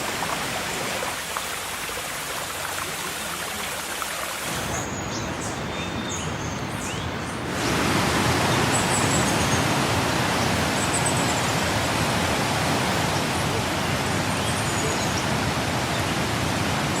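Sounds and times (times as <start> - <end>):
heavy rain hissing: 0.0 - 5.1, 7.4 - 17.0.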